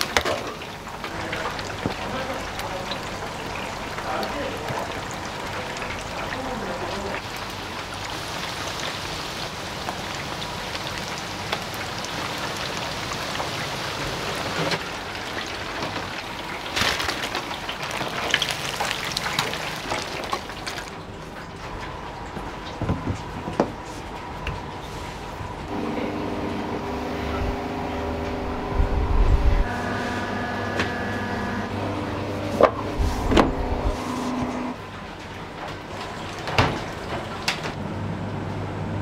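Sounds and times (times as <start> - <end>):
deep fryer oil sizzling: 0.0 - 39.0.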